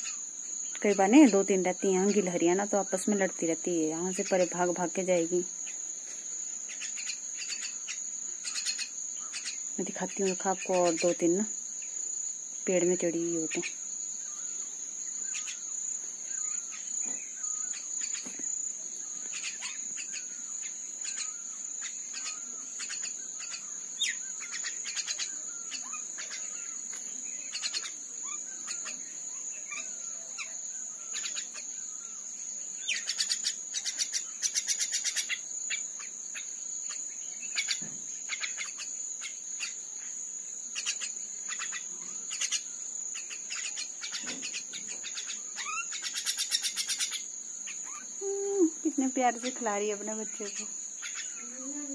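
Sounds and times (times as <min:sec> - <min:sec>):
high-pitched insect trill: 0:00.0 - 0:51.9
bird chirps and calls: 0:06.7 - 0:11.4, 0:12.7 - 0:18.4, 0:19.0 - 0:32.2, 0:32.8 - 0:40.1, 0:40.7 - 0:51.9.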